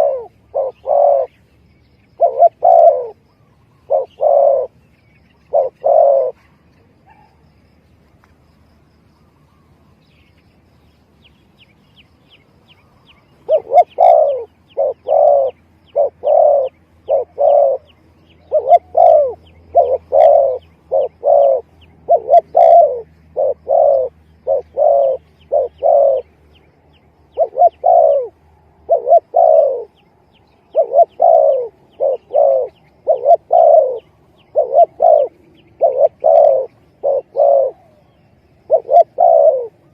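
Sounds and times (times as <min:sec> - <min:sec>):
dove cooing: 0:00.0 - 0:07.4, 0:12.8 - 0:39.9.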